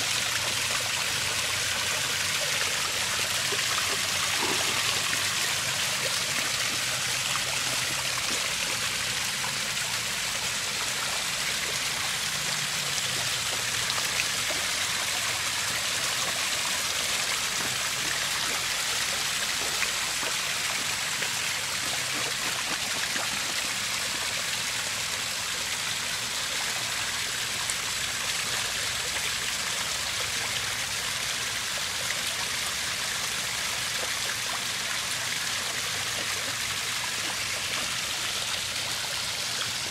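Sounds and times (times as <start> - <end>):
water splashing over rocks: 0.0 - 30.0, 31.9 - 39.9.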